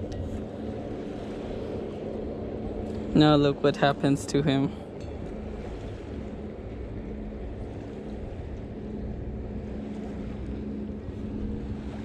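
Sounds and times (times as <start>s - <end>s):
low motor hum: 0.0s - 12.0s
wind rumbling on microphone: 0.0s - 12.0s.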